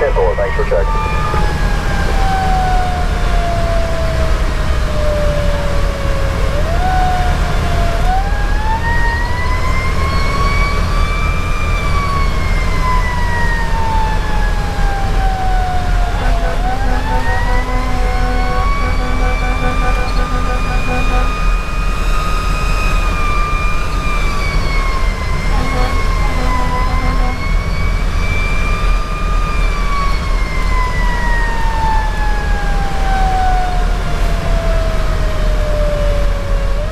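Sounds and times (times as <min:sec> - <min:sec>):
diesel engine rumble: 0:00.0 - 0:36.9
road noise: 0:00.0 - 0:36.9.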